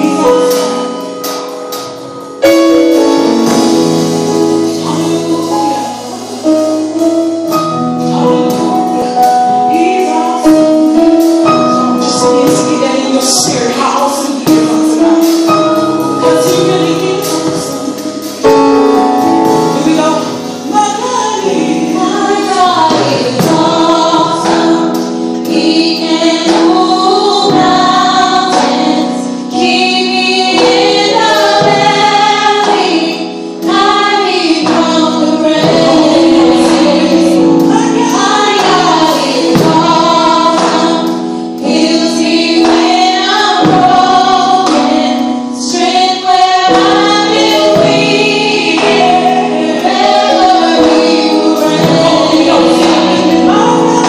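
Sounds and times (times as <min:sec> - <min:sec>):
woman singing lead: 0:00.0 - 0:01.6, 0:02.4 - 0:54.0
instrumental accompaniment: 0:00.0 - 0:54.0
backing singers in harmony: 0:03.3 - 0:54.0.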